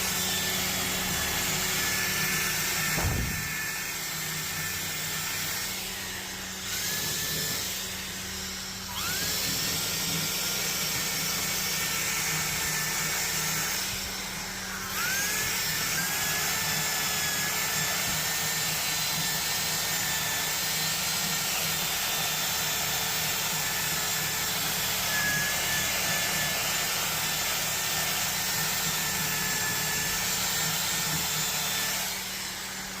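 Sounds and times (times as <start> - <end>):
rotary brush motor whine: 0.0 - 33.0.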